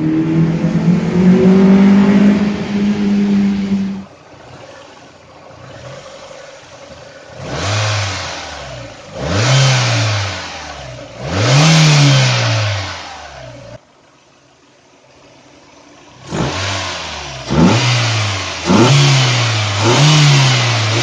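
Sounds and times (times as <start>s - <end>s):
car engine revving: 0.0s - 13.8s, 16.0s - 21.0s.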